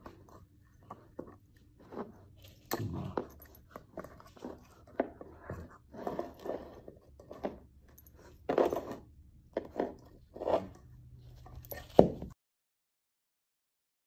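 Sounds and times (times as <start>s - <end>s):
puppy chewing on a toy: 0.0s - 12.2s.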